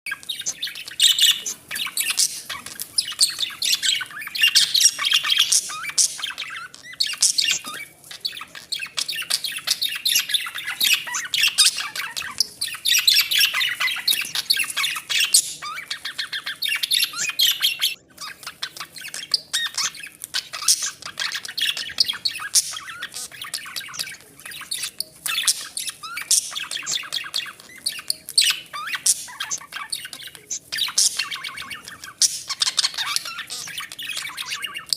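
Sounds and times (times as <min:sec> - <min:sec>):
budgerigars chattering and squawking: 0:00.1 - 0:34.9.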